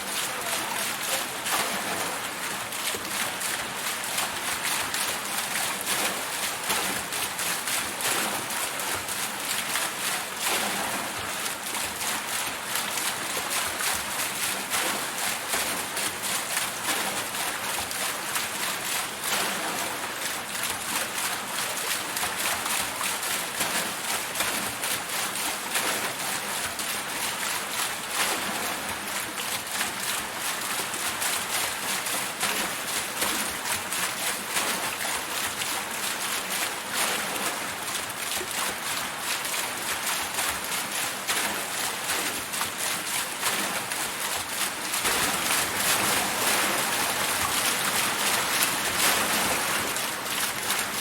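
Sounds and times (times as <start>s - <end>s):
water wheel splashing water: 0.0s - 51.0s.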